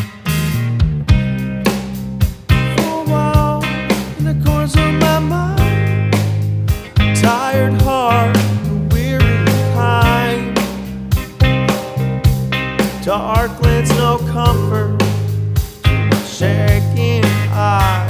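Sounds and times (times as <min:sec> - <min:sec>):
band playing a song: 0:00.0 - 0:18.0.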